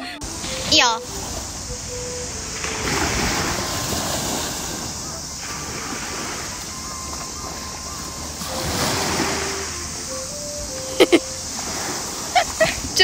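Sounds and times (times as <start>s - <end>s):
sea waves washing up a beach: 0.2s - 13.0s.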